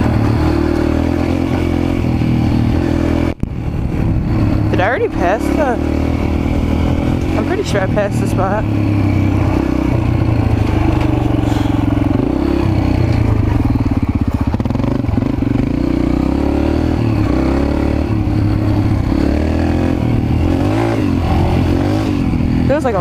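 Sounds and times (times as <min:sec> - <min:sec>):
mini bike engine revving: 0:00.0 - 0:23.0.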